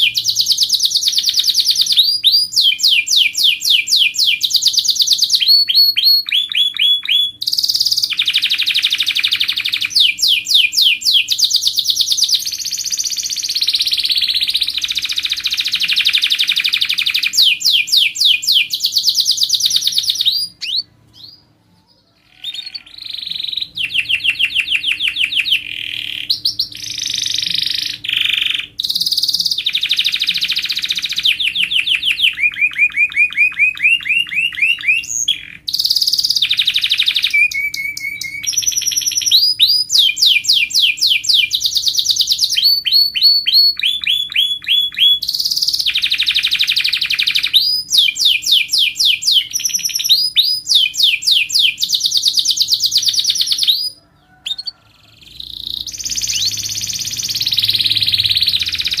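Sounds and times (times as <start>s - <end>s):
canary singing trilled phrases: 0.0s - 59.0s.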